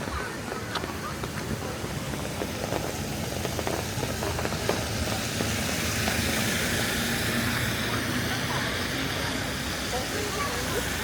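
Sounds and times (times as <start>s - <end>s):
tyres hissing on wet pavement: 0.0s - 11.0s
vehicle engine running: 0.0s - 11.0s.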